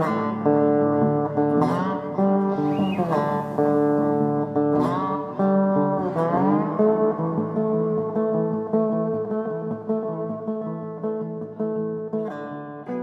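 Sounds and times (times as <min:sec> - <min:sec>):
guitar chords with sliding notes: 0:00.0 - 0:13.0.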